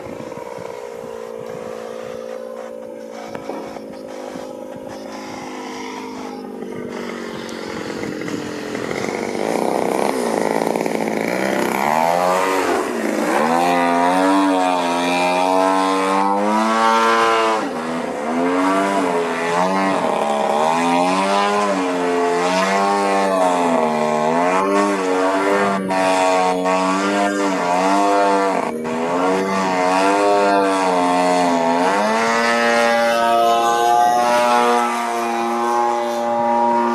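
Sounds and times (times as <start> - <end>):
model plane engine: 0.0 - 36.9.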